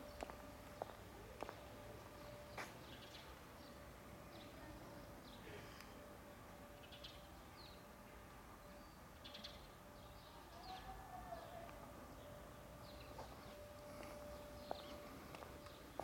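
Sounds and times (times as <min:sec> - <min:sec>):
faint steady tone: 0:00.0 - 0:16.0.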